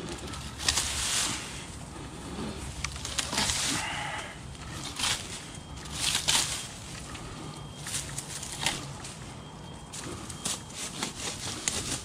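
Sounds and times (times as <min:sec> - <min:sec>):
branches crackling: 0:00.0 - 0:12.0
leafy branches rustling: 0:00.0 - 0:12.0.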